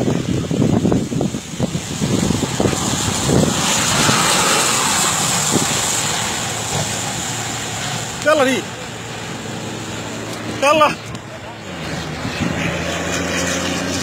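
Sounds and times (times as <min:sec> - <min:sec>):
jet airliner roar: 0:00.0 - 0:14.0.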